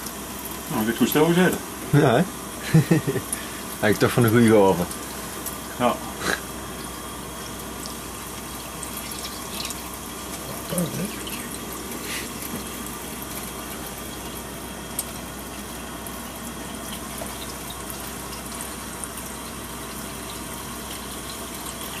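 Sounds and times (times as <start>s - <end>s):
water running: 0.0s - 22.0s.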